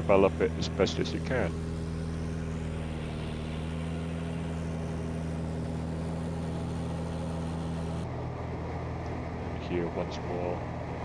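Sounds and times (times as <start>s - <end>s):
propeller plane engine running: 0.0s - 11.0s.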